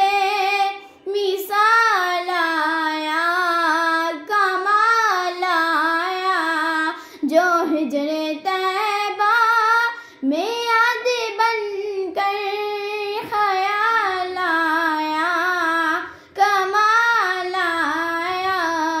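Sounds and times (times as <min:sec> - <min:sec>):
girl singing unaccompanied: 0:00.0 - 0:19.0.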